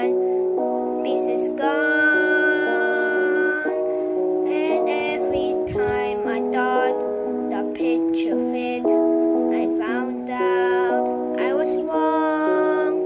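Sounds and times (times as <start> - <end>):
child singing gospel song: 0.0 - 0.2, 0.9 - 13.0
instrumental backing music: 0.0 - 13.0.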